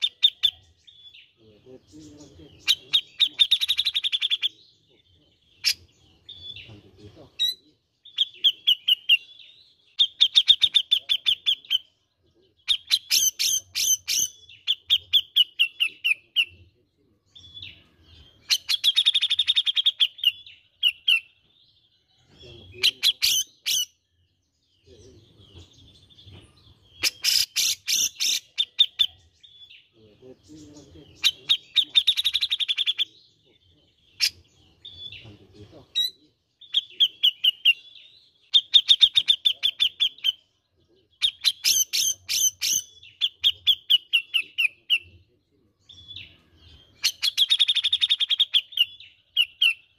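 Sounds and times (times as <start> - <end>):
bird trilling and chattering: 0.0 - 49.9.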